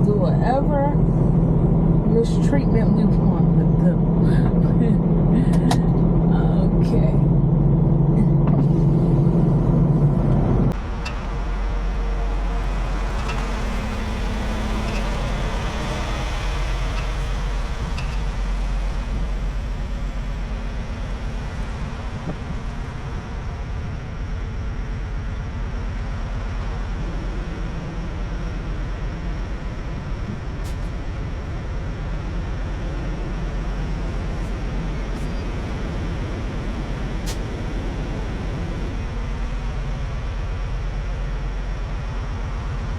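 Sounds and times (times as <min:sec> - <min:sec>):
diesel truck engine rumbling: 0:00.0 - 0:42.9
steady hum: 0:00.0 - 0:42.9.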